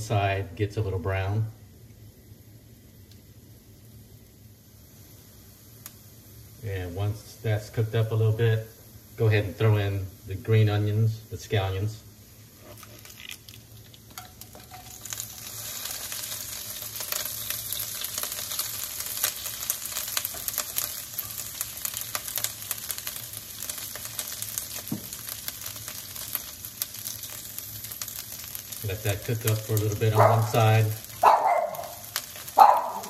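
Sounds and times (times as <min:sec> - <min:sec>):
vegetables sizzling in a wok: 0:00.0 - 0:33.0.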